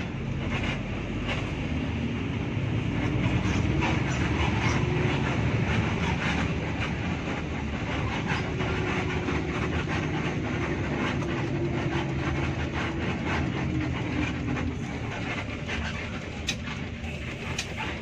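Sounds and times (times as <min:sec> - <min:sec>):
bus diesel engine drone: 0:00.0 - 0:18.0
rattles and clicks from bus body: 0:00.0 - 0:18.0.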